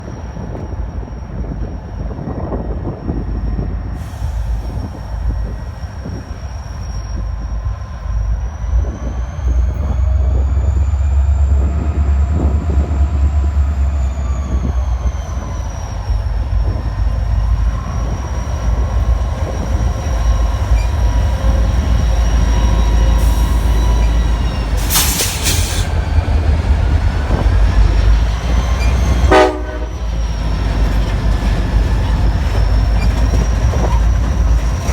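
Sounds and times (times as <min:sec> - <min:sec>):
diesel locomotive engines rumbling: 0:00.0 - 0:34.9.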